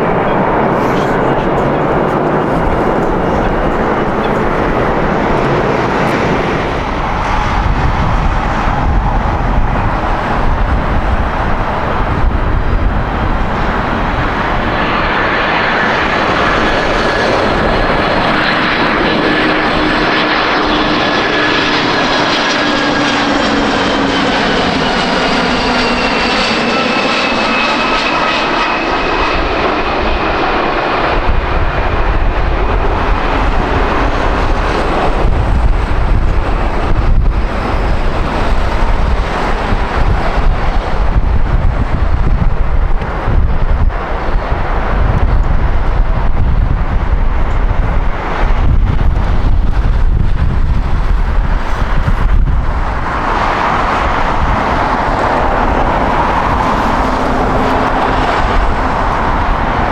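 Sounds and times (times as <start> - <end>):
jet engines passing: 0.0 - 59.9.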